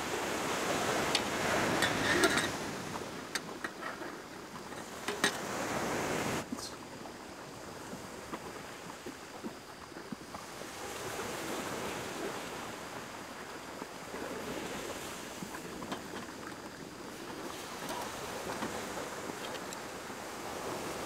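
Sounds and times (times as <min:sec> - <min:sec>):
waves washing on beach: 0:00.0 - 0:21.0.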